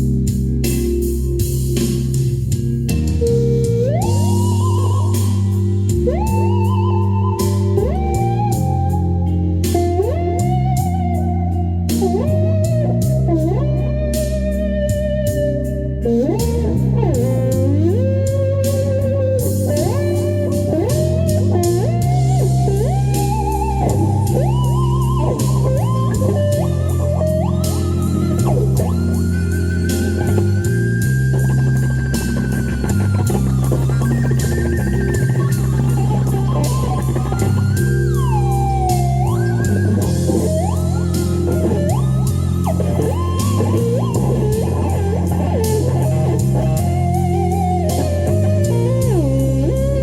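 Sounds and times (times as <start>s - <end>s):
bass: 0.0s - 50.0s
drums: 0.0s - 50.0s
lead guitar with string bends: 0.0s - 50.0s.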